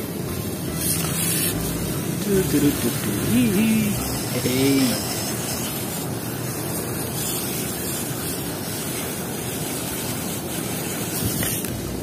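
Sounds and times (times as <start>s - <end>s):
water spraying: 0.0s - 12.0s.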